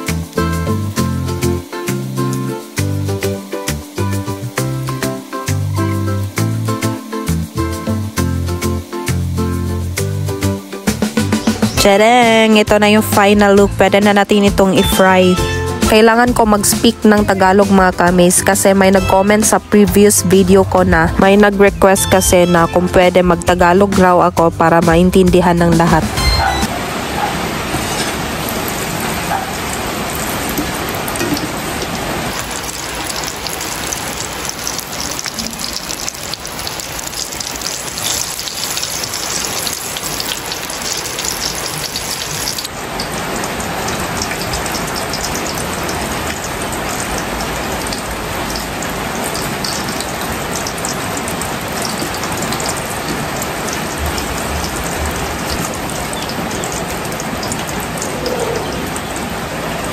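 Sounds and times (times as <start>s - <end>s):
food deep-frying in hot oil: 0.0s - 59.9s.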